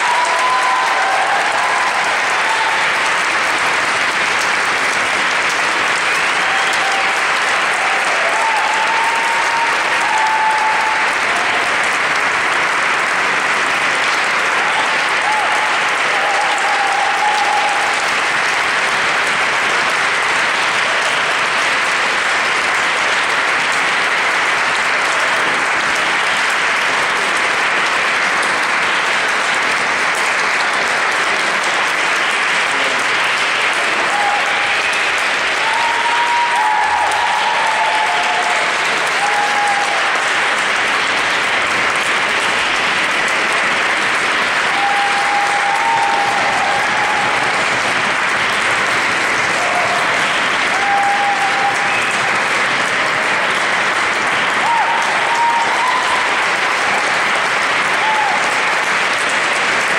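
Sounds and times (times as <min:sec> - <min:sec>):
audience applauding: 0:00.0 - 0:59.9.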